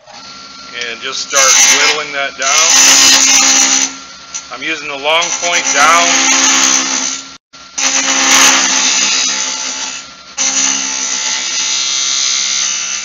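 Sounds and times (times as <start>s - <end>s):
lathe motor hum: 0.0s - 13.0s.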